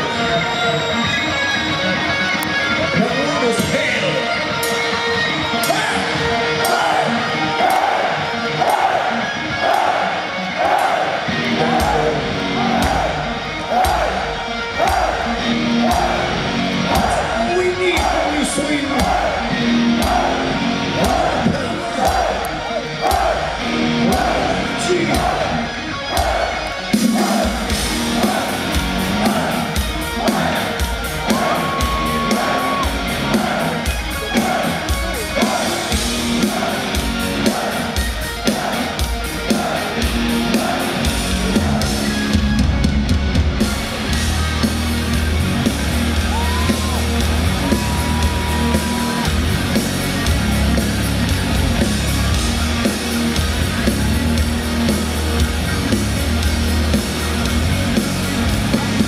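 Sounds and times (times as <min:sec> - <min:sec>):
bass and drums: 0:00.0 - 0:59.0
distorted guitar riff: 0:00.0 - 0:59.0.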